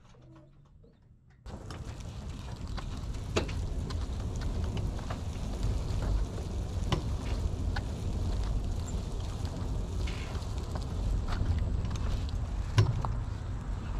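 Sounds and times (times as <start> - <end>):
crackling noise: 0.0 - 13.9
wind rumbling on microphone: 1.5 - 13.9.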